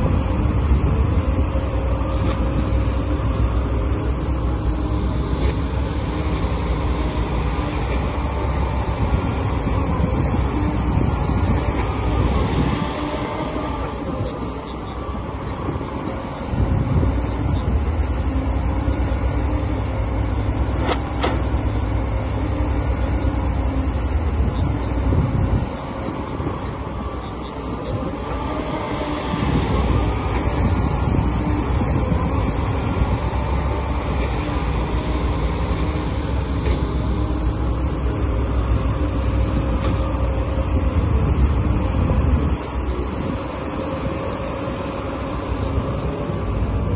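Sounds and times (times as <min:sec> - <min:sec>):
engine rumbling: 0:00.0 - 0:46.9
wind buffeting microphone: 0:00.0 - 0:46.9.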